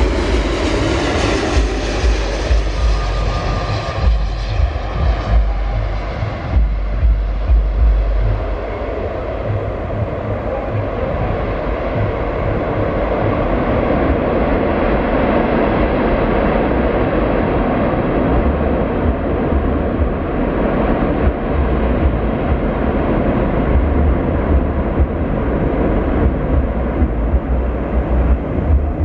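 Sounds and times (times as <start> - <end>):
jet engines running: 0.0 - 29.0
wind rumbling on microphone: 0.0 - 29.0.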